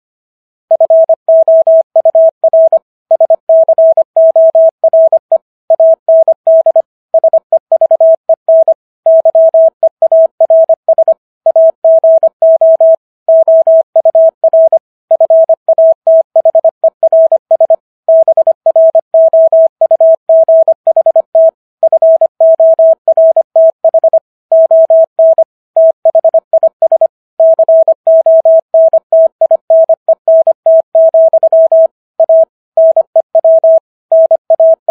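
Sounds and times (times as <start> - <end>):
morse code tone: 0.7 - 34.9.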